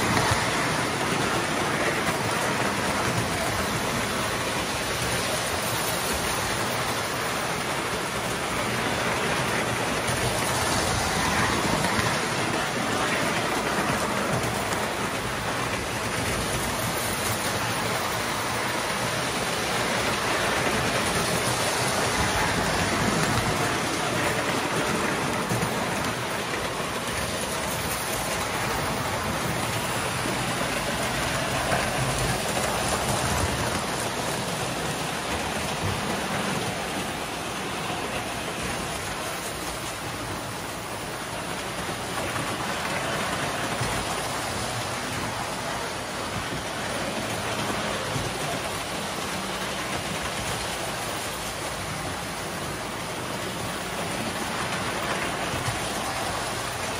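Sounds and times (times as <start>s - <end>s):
toy trains clattering on track: 0.0s - 56.9s.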